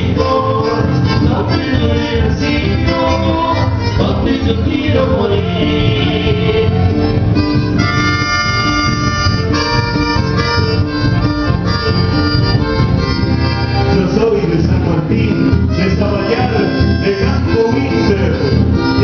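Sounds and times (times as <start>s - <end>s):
accordion chords: 0.0s - 19.0s
guitars strummed and plucked: 0.0s - 19.0s.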